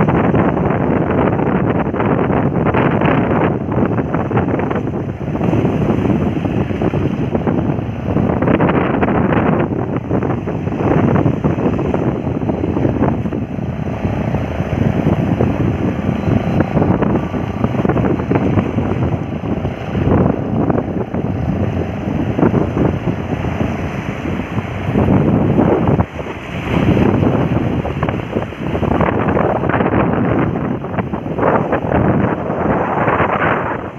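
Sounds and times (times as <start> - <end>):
water rushing and splashing: 0.0 - 33.9
wind buffeting microphone: 0.0 - 33.9.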